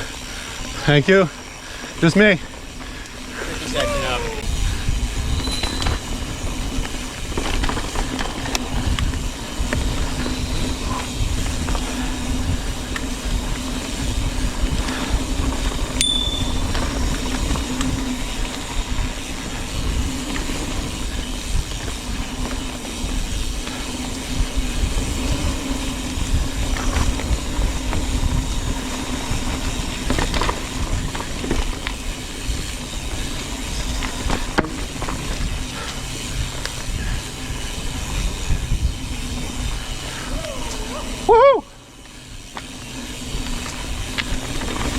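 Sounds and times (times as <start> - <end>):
bike tyres and rattle on dirt: 0.0 - 44.9
wind rumbling on microphone: 0.0 - 44.9
bike clicks and knocks: 5.2 - 39.6, 42.0 - 44.9.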